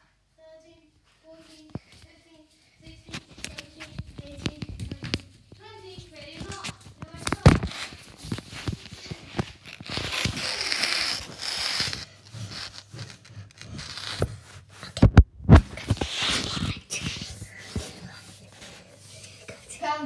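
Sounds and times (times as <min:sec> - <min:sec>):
phone rustling and scraping: 0:02.9 - 0:19.5.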